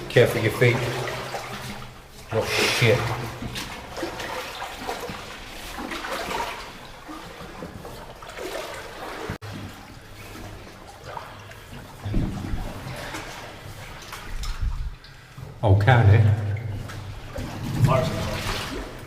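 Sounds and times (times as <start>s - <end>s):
feet wading through shallow water: 0.0s - 15.6s, 16.4s - 19.0s.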